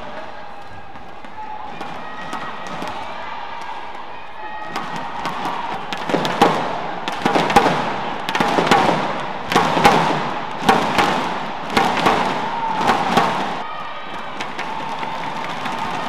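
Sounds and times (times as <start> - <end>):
crowd beating a rhythm: 0.0 - 16.0.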